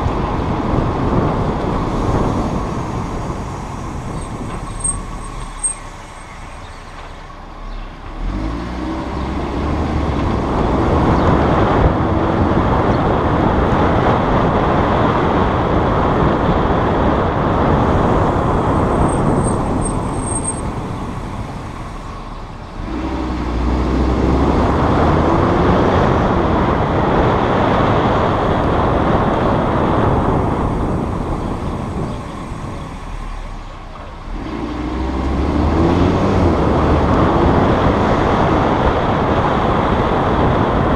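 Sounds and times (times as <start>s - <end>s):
car engine accelerating: 0.0s - 40.9s
road and tyre noise: 0.0s - 40.9s.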